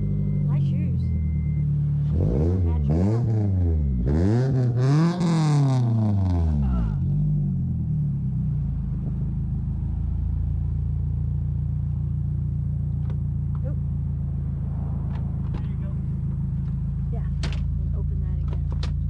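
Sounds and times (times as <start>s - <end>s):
car engine idling: 0.0s - 19.0s
car engine revving: 0.0s - 19.0s.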